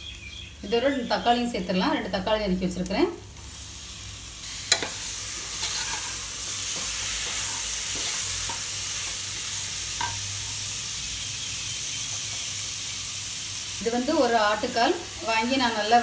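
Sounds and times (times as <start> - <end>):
food sizzling in oil: 0.5 - 16.0.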